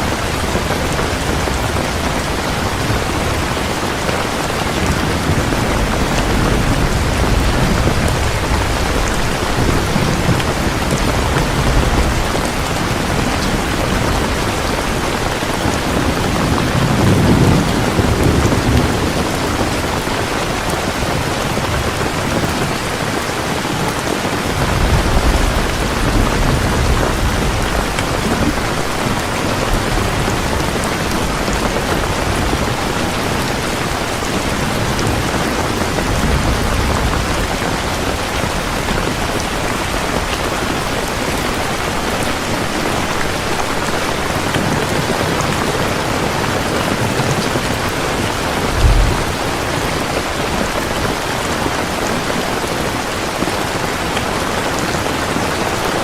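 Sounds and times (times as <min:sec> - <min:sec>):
heavy rain falling: 0:00.0 - 0:56.0
low thunder rumbling: 0:00.1 - 0:23.1, 0:24.4 - 0:42.6, 0:47.5 - 0:51.8.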